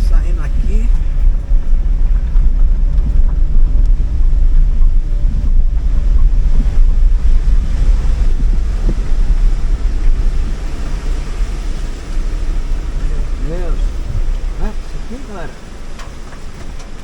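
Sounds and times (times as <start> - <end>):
vehicle running: 0.0 - 17.0
wind buffeting microphone: 0.0 - 17.0.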